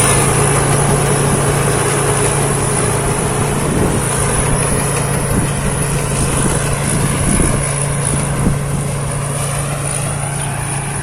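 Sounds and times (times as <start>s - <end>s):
combine harvester engine hum: 0.0s - 11.0s
thin high whine: 0.0s - 11.0s.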